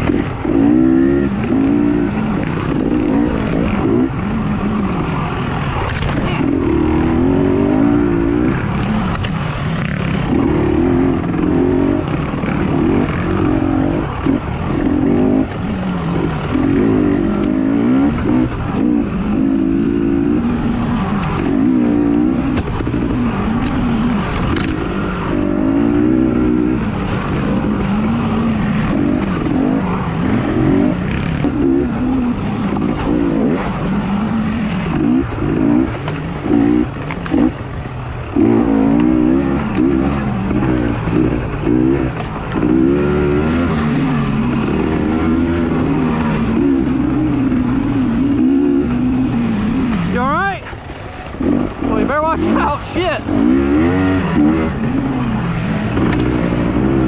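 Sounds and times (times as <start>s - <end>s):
racing engine revving: 0.0s - 57.0s.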